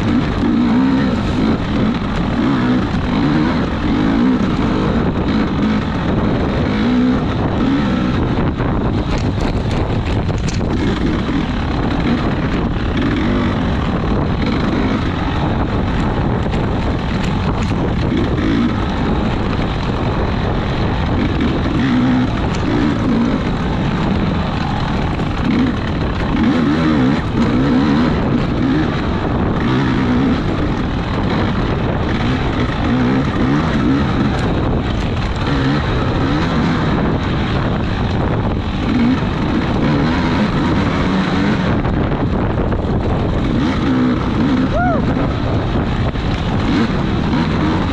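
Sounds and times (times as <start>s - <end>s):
small racing engine revving: 0.0s - 47.9s
wind noise on microphone: 0.0s - 47.9s.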